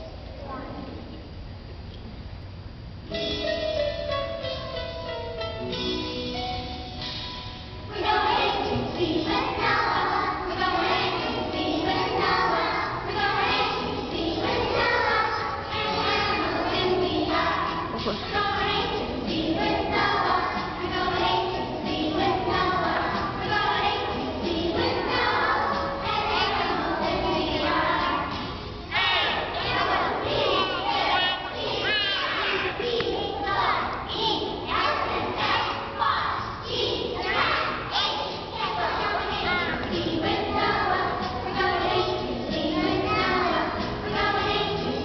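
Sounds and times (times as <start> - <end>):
recorded backing music: 3.0 - 45.0
young children singing together: 7.9 - 45.0.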